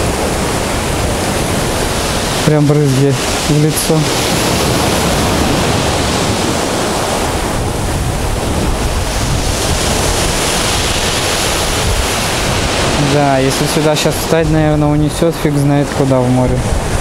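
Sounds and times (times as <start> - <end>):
waves breaking on pebble shore: 0.0 - 17.0
wind on microphone: 0.0 - 17.0.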